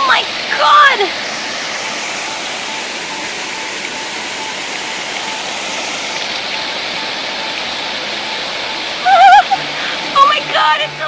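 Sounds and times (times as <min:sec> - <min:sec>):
waterfall splashing into pool: 0:00.0 - 0:11.0.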